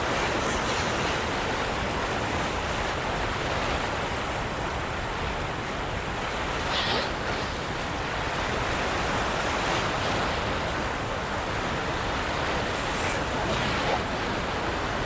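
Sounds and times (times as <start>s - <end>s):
water rushing through dam spillway: 0.0s - 15.0s.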